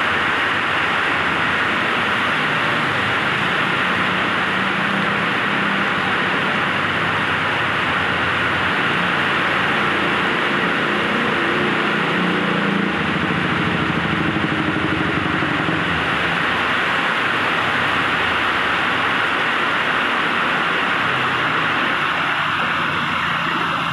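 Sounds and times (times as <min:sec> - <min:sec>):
heavy rain on road: 0:00.0 - 0:23.9
vehicles driving through wet: 0:00.0 - 0:23.9.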